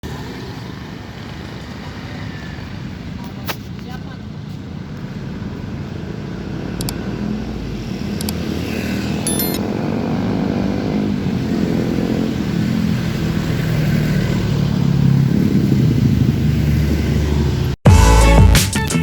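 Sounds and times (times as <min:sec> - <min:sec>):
road and wind noise: 0:00.0 - 0:17.8.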